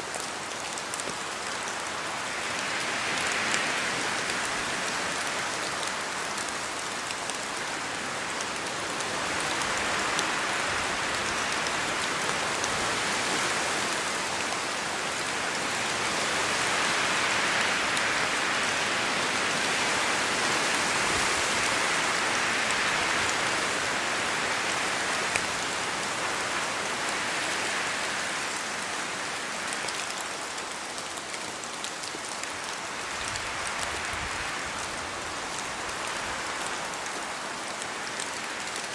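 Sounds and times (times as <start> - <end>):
rain pattering on leaves: 0.0 - 38.9.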